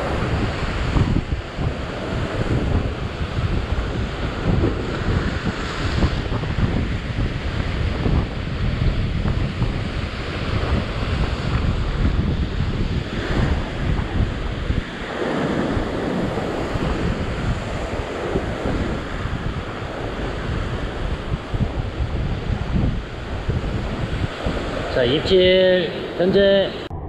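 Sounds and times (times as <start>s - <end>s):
surf breaking over rocks: 0.0s - 27.0s
wind buffeting microphone: 0.0s - 27.0s.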